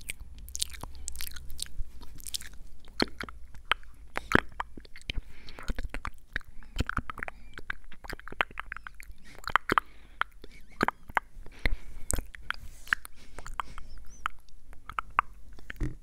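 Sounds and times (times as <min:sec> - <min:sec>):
mouth clicks and smacks: 0:00.0 - 0:16.0.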